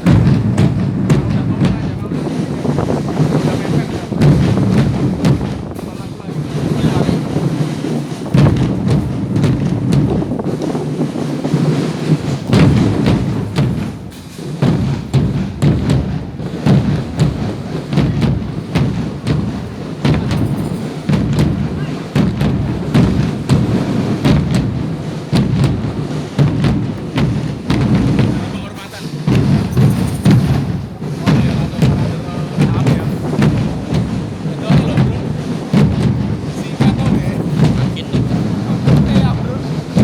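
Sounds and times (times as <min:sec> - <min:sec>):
percussion-led music: 0:00.0 - 0:40.0.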